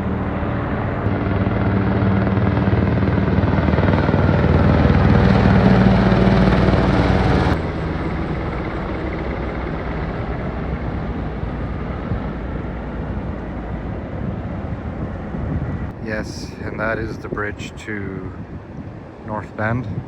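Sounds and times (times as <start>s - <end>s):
helicopter running: 0.0s - 20.0s
steady rushing noise: 0.0s - 20.0s.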